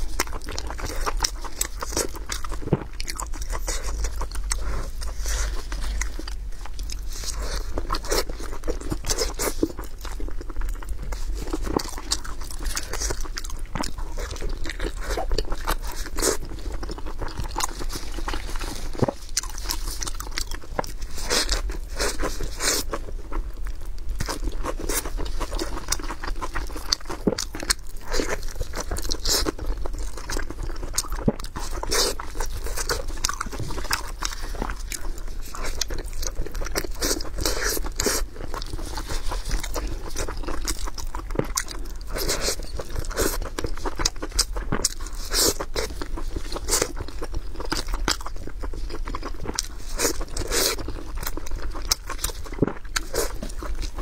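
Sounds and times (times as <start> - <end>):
lettuce crunching and chewing: 0.0 - 54.0.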